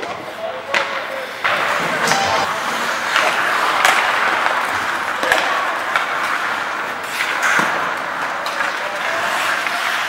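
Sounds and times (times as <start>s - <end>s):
hockey sticks and puck clacking: 0.0s - 10.0s
skates scraping on ice: 0.0s - 10.0s.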